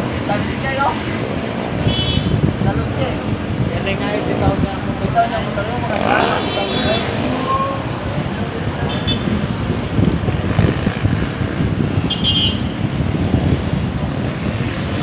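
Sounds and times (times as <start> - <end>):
engine and traffic rumble: 0.0 - 15.0.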